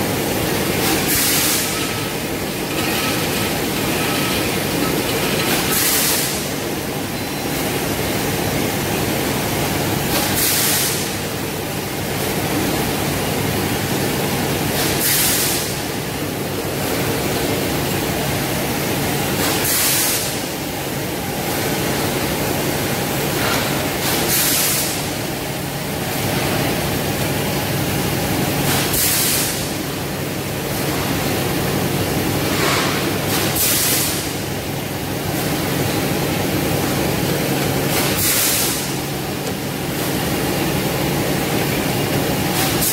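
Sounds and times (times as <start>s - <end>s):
factory machinery humming: 0.0s - 42.9s.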